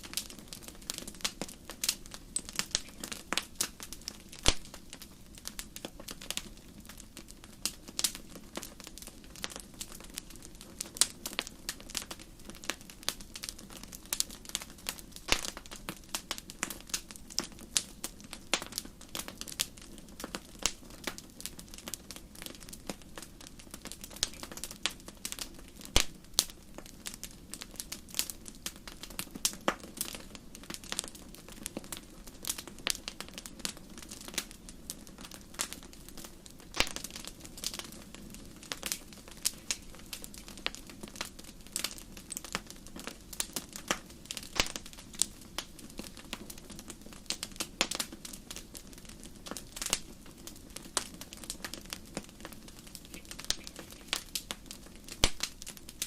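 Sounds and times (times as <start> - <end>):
campfire crackling and popping: 0.0 - 56.0
low rush of burning fire: 0.0 - 56.0.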